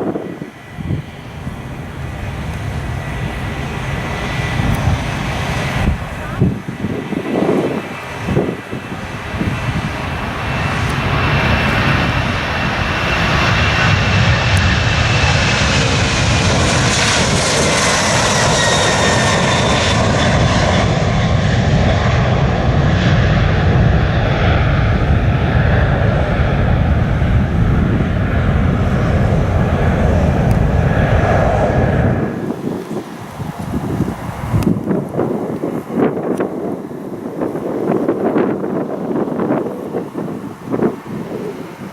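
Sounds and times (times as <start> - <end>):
jet airliner taking off: 0.0 - 41.9
whining jet fan tone: 0.0 - 41.9.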